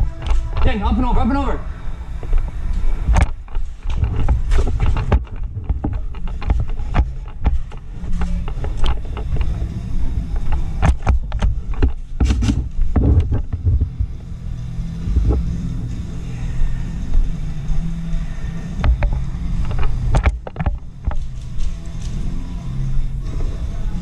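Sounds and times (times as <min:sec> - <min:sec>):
handling noise rumble: 0:00.0 - 0:24.0.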